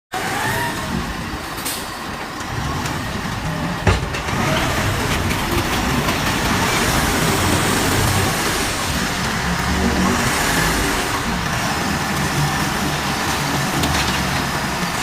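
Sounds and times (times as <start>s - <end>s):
concrete mixer engine running: 0.1s - 15.0s.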